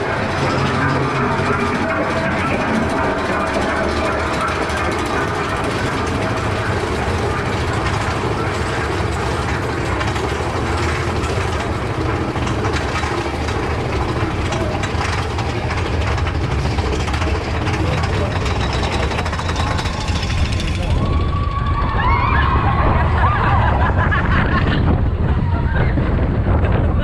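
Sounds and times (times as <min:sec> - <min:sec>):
lift chain clicking and rattling: 0:00.0 - 0:22.0
roller coaster lift rumbling: 0:00.0 - 0:27.0.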